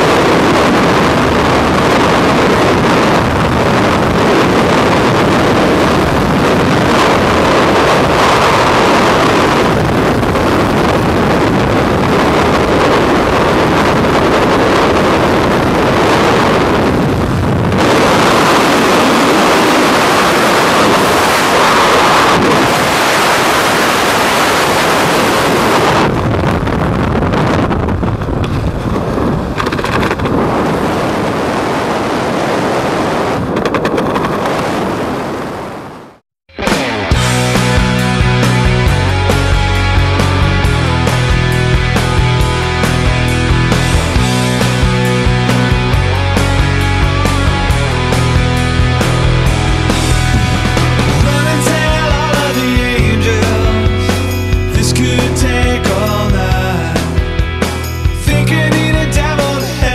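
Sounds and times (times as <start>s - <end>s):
wind rushing: 0.0s - 59.9s.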